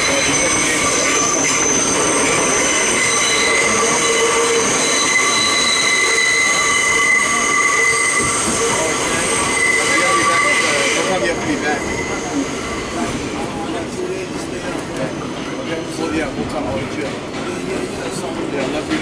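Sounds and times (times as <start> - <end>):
moving train rumble: 0.0 - 19.0
subway wheels squealing: 0.0 - 19.0.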